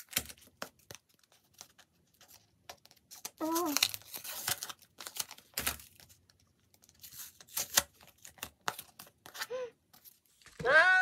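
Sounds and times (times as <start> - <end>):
packaging crinkling and tearing: 0.0 - 10.6.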